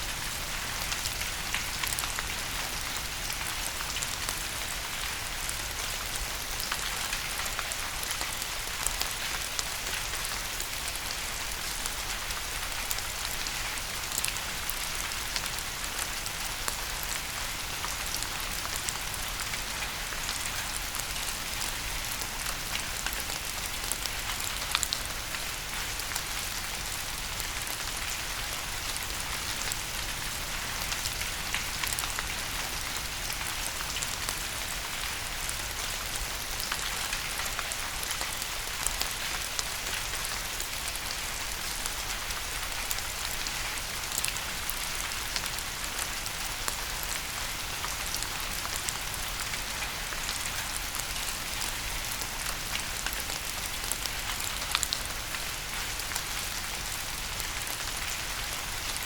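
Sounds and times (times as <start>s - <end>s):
steady rain: 0.0s - 59.0s
raindrops pattering on a surface: 0.1s - 59.0s.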